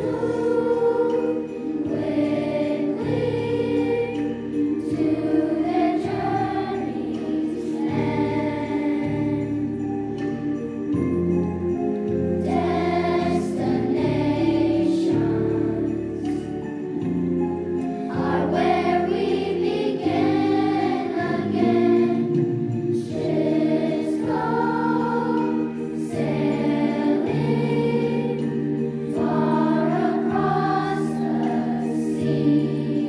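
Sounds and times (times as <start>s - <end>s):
children's choir singing: 0.0s - 10.7s, 12.4s - 17.1s, 17.8s - 33.0s.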